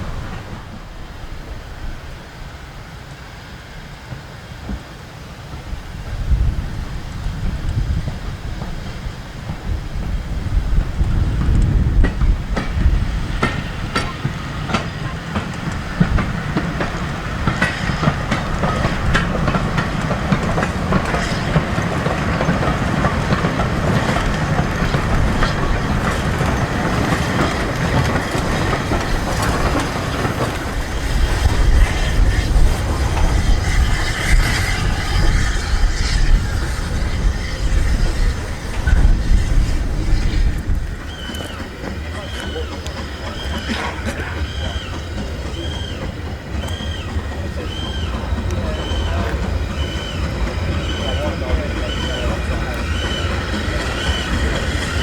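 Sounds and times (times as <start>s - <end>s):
steam train rumbling: 0.0s - 55.0s
wheels clicking over rail joints: 4.0s - 55.0s.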